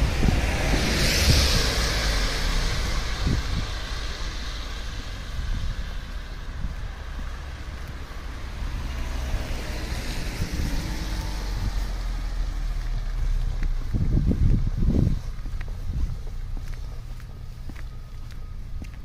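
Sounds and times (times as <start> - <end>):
car tyres hissing on wet street: 0.0 - 16.9
wind rumble on microphone: 0.0 - 19.0.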